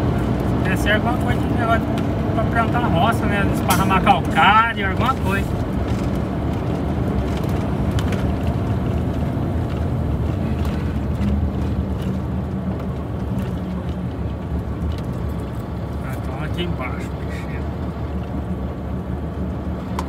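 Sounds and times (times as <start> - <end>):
diesel truck engine drone: 0.0 - 20.0
road noise: 0.0 - 20.0.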